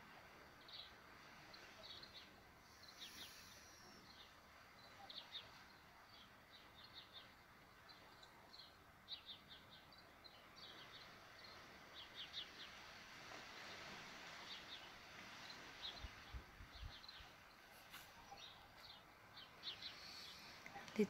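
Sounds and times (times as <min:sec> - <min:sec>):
small birds chirping: 0:00.5 - 0:21.0.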